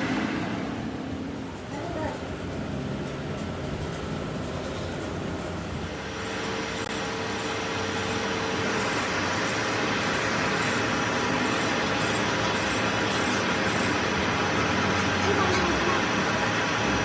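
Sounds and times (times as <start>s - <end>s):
workshop machinery noise: 0.0s - 17.0s.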